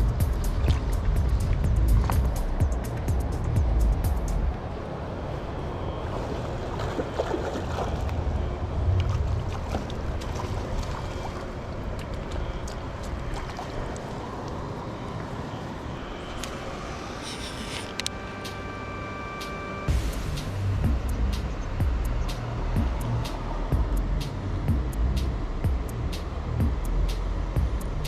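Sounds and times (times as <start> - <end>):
wind rumbling on microphone: 0.0 - 18.1, 19.9 - 28.0
stream water rushing: 0.0 - 28.0.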